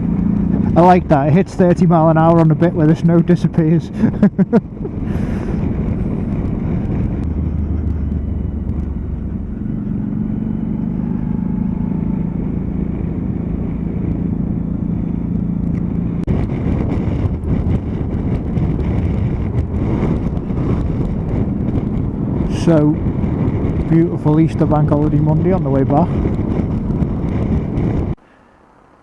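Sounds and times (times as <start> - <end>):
motorcycle engine hum: 0.0 - 29.0
wind and road noise: 0.0 - 29.0.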